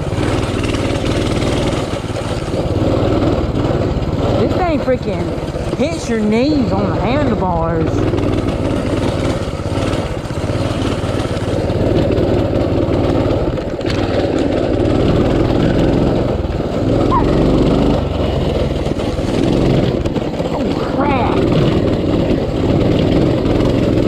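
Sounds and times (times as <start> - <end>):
small motorbike engine revving: 0.0 - 24.0.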